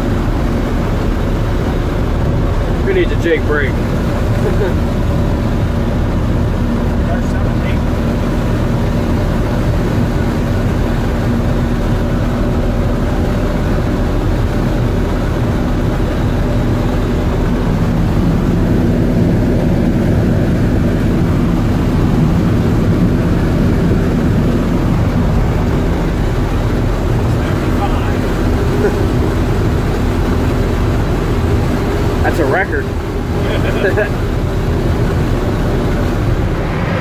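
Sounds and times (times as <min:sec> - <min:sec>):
diesel engine running steadily: 0:00.0 - 0:37.0
tyre and road noise: 0:00.0 - 0:37.0.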